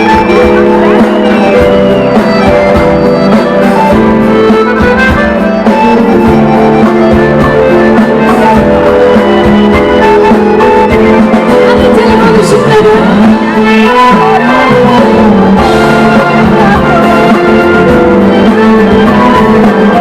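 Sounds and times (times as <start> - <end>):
held melody notes: 0.0 - 20.0
steady drum beat: 0.0 - 20.0.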